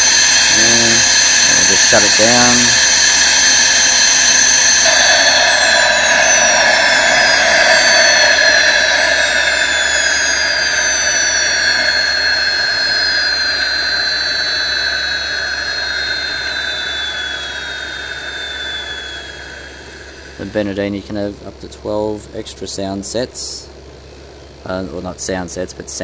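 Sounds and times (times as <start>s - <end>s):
jet turbine whine spooling down: 0.0s - 26.0s.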